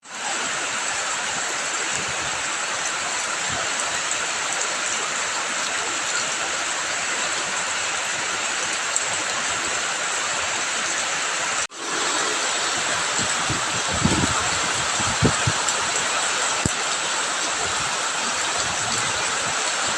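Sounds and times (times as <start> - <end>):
rain and running water: 0.0 - 19.9.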